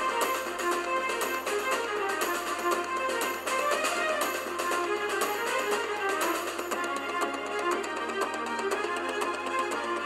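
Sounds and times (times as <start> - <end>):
instrumental cinematic music: 0.0 - 10.0.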